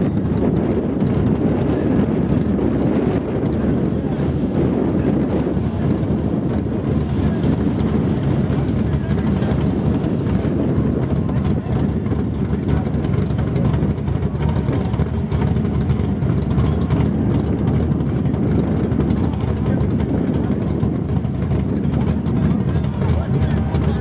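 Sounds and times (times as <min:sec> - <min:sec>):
drag car engine idling: 0:00.0 - 0:24.0.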